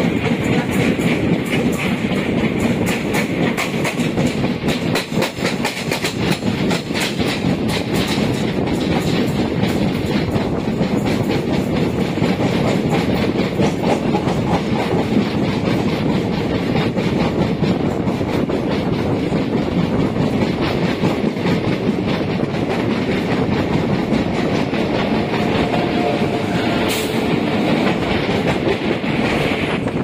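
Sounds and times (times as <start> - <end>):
train rumble: 0.0 - 30.0
wheels clacking over rail joints: 0.0 - 30.0.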